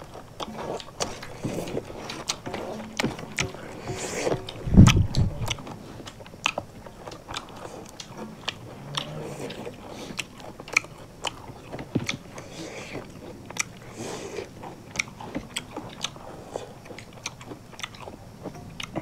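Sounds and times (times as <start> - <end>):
people chewing and crunching: 0.0 - 19.0.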